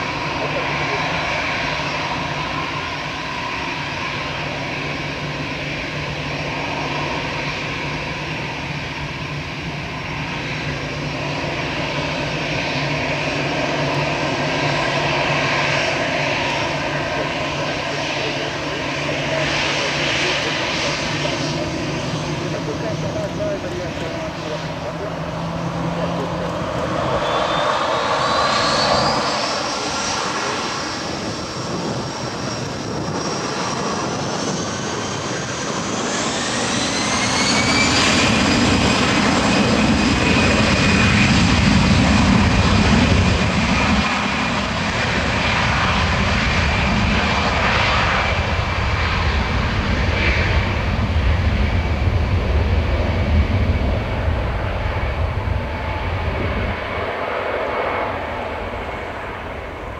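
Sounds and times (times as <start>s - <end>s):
jet engine whine: 0.0s - 59.9s
jet low rumble: 0.0s - 59.9s.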